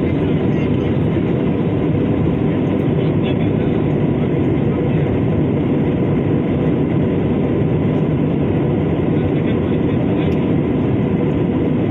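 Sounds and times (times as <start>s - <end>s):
jet engine roar in cabin: 0.0s - 11.9s.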